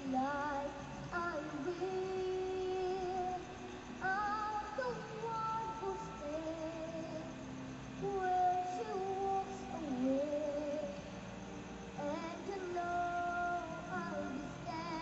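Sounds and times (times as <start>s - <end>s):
person singing: 0.0s - 11.1s, 11.9s - 15.0s.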